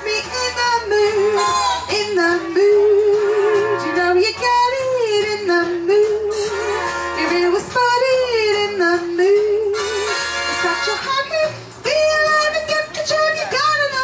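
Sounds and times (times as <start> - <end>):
instrumental accompaniment: 0.0 - 14.0
woman singing into a microphone: 0.0 - 14.0.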